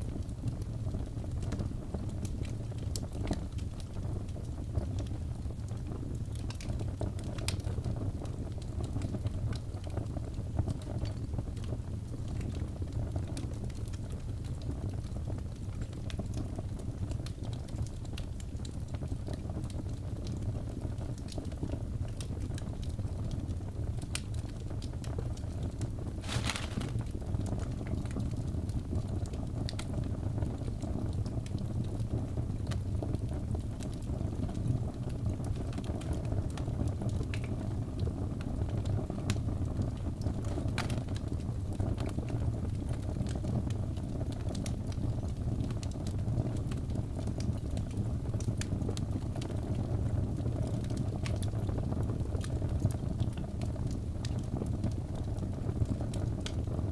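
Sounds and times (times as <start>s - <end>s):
fire pops and crackles: 0.0s - 56.9s.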